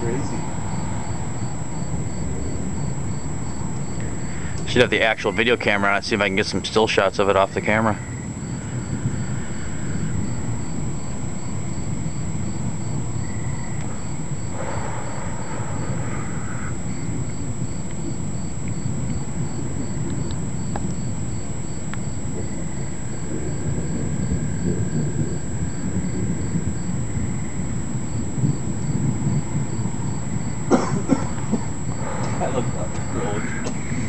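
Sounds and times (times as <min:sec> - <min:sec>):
low rumble: 0:00.0 - 0:30.7, 0:31.4 - 0:34.0
insect chirping: 0:00.0 - 0:34.0.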